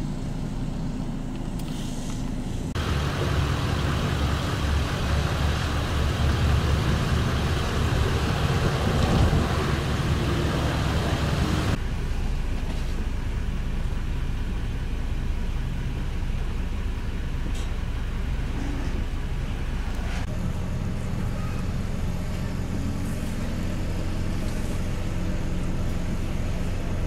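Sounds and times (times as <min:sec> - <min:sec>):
engine idling: 0:00.0 - 0:27.0
outdoor noise: 0:00.0 - 0:27.0.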